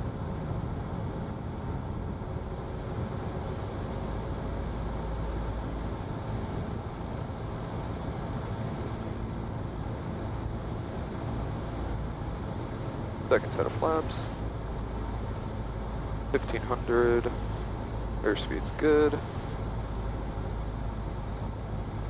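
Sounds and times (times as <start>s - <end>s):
propeller plane engine droning: 0.0s - 22.0s.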